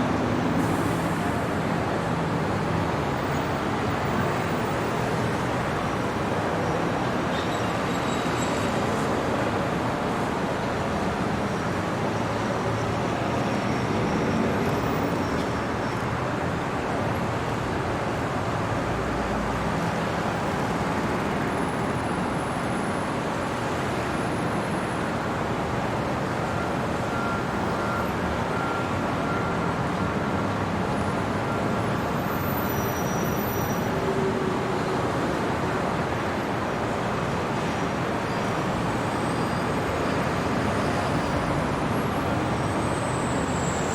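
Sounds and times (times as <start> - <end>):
city traffic hum: 0.0 - 43.9.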